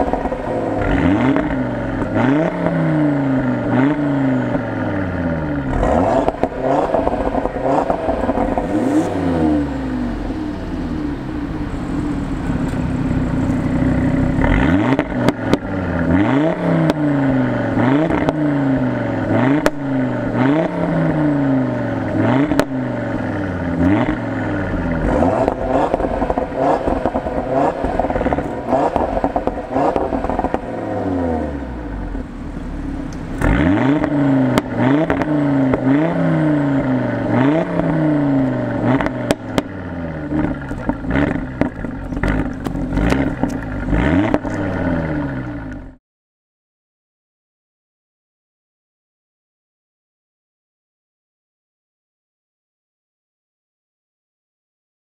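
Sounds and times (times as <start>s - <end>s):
car exhaust revving: 0.0s - 46.0s
exhaust crackles: 0.0s - 46.0s.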